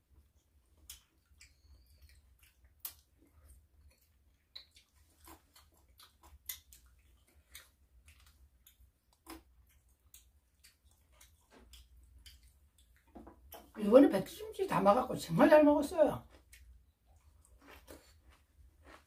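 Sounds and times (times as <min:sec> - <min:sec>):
wet chewing and lip smacks: 0:00.2 - 0:13.8, 0:16.2 - 0:19.0.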